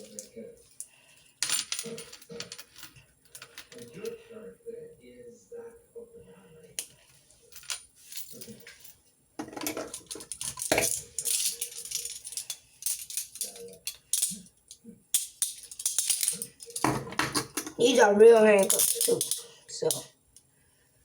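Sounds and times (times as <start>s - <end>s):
handcuffs rattling and clinking: 0.0s - 4.2s, 6.8s - 20.1s.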